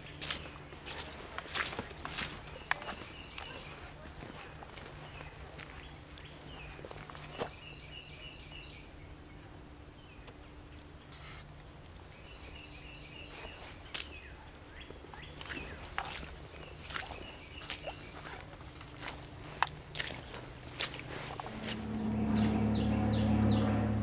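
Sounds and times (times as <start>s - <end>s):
low outdoor hum: 0.0s - 24.0s
songbird chirping: 0.0s - 24.0s.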